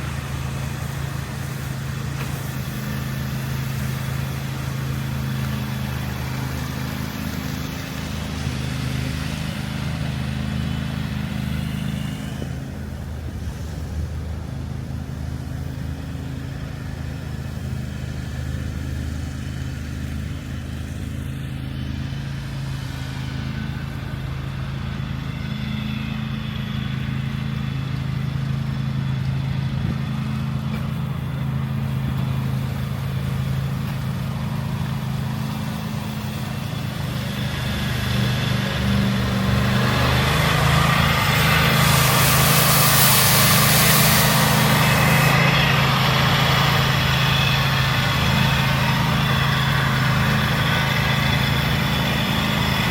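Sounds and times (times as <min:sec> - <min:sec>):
faint street noise: 0:00.0 - 0:52.9
vehicle engine humming: 0:00.0 - 0:52.9.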